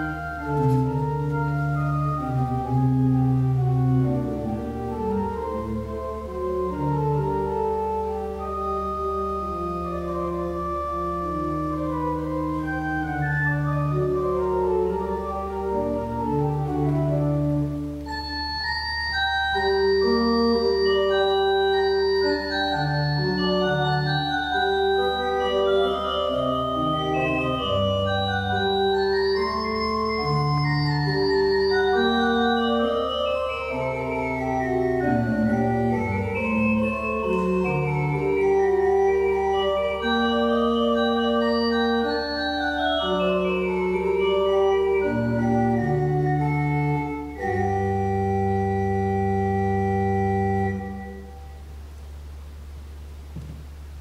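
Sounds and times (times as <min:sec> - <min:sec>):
organ playing slow chords: 0:00.0 - 0:54.0.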